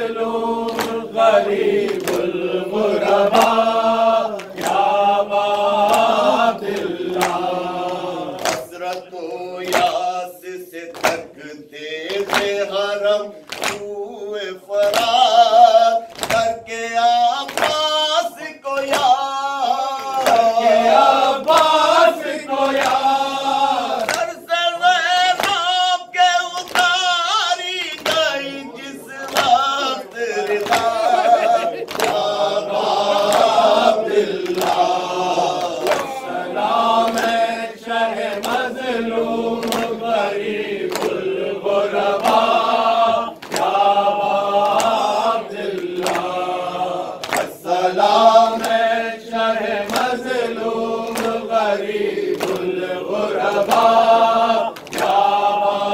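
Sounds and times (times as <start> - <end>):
men chanting a lament: 0.0 - 55.9
hands slapping chests: 0.6 - 10.1, 10.8 - 11.4, 12.1 - 12.7, 13.4 - 13.9, 14.8 - 15.3, 16.1 - 16.6, 17.4 - 18.0, 18.8 - 19.2, 20.0 - 24.4, 25.2 - 25.8, 26.5 - 38.8, 39.4 - 41.3, 42.0 - 48.9, 49.8 - 55.5.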